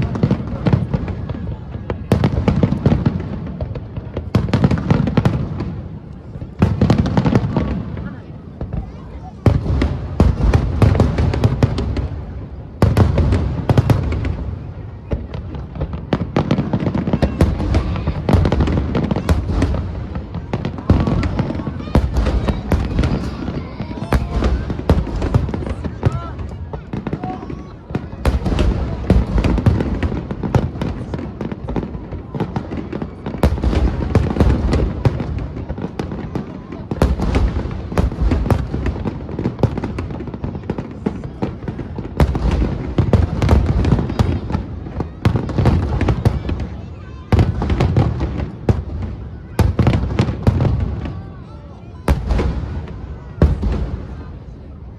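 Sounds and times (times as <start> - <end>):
fireworks booms and crackling: 0.0 - 54.9.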